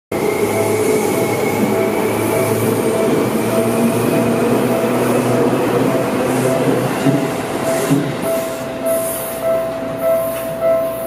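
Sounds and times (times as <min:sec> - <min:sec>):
train wheels rumbling on rails: 0:00.1 - 0:11.0.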